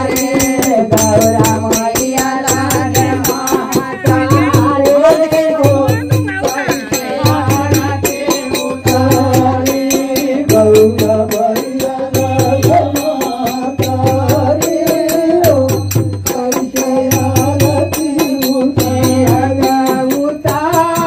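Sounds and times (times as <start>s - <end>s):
devotional singing: 0.0s - 21.0s
drum beat: 0.0s - 21.0s
jingling percussion: 0.0s - 21.0s.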